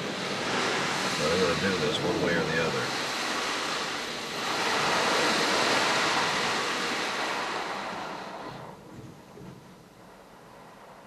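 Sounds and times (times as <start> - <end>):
car wash water spray hiss: 0.0 - 11.0.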